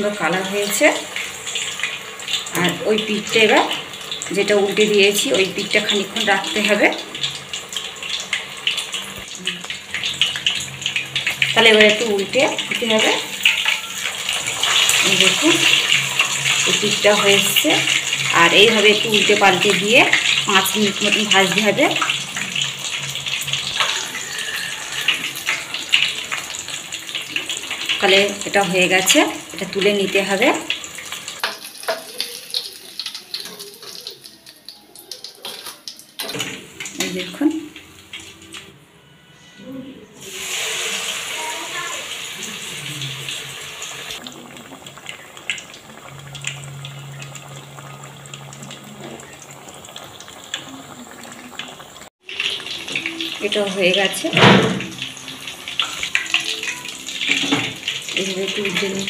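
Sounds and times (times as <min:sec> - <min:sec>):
deep-frying bubbling sizzle: 0:00.0 - 0:38.8, 0:40.2 - 0:59.0.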